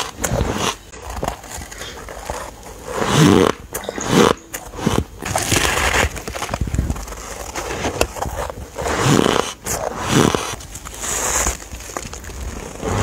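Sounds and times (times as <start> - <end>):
chewing crunchy ice: 0.0 - 13.0.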